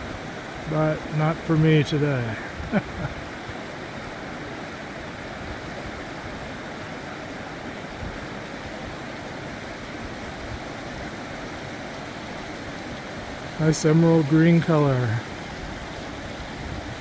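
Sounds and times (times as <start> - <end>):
mountain creek running over rocks: 0.0 - 17.0.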